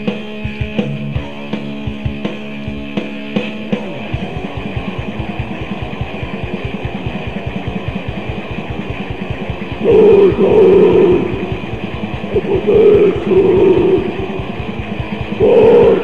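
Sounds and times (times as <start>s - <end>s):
lo-fi death metal: 0.0s - 16.0s.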